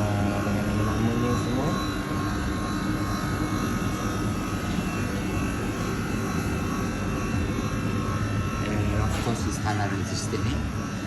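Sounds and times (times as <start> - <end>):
mechanical drone: 0.0 - 11.0.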